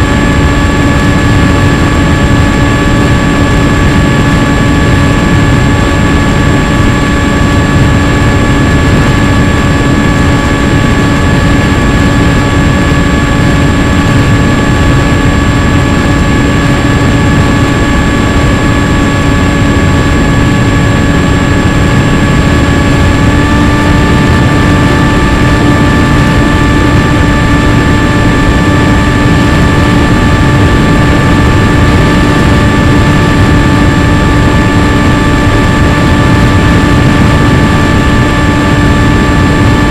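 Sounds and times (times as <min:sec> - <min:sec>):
model airplane motor whine: 0:00.0 - 0:39.9
wind noise: 0:00.0 - 0:39.9.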